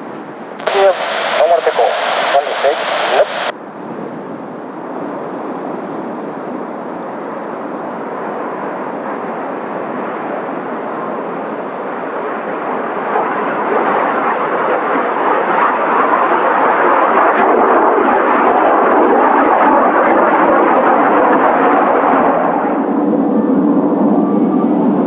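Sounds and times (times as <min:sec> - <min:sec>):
jet engine rush: 0:00.2 - 0:25.0.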